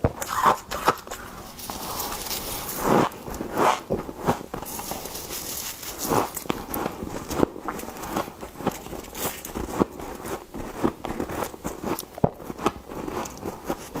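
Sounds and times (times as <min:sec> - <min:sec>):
frost crunching and scraping: 0:00.0 - 0:14.0.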